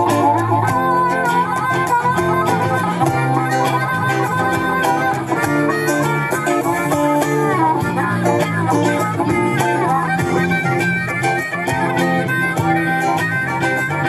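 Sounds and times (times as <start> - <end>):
bass guitar: 0.0 - 14.0
drum kit beat: 0.0 - 14.0
electric guitar: 0.0 - 14.0.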